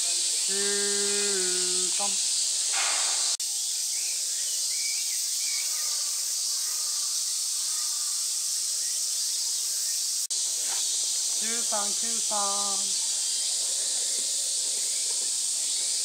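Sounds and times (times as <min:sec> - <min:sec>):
insect chorus hissing: 0:00.0 - 0:16.0.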